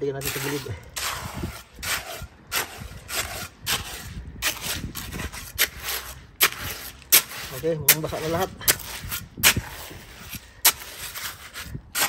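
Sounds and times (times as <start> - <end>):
trowel scraping wet concrete: 0.0 - 12.0.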